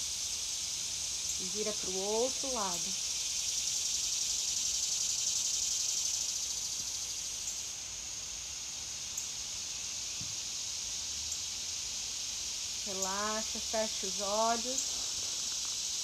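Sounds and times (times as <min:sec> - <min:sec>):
insects chorus buzzing: 0:00.0 - 0:16.0.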